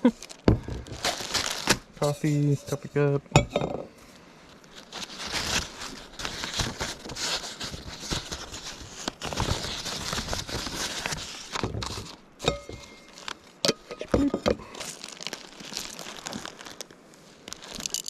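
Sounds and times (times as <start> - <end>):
packaging rustling and crinkling: 0.0 - 3.2, 4.0 - 18.0.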